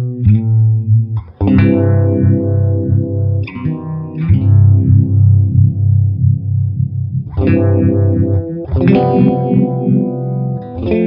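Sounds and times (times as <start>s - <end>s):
phased electric guitar chords: 0.0s - 11.0s.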